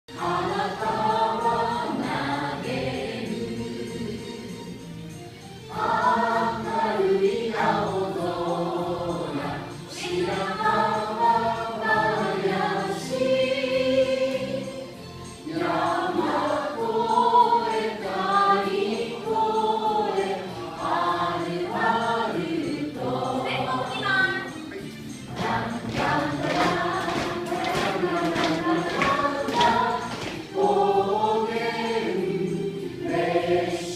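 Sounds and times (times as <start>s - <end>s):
group of voices singing: 0.1s - 5.0s, 5.7s - 24.6s, 25.2s - 33.9s.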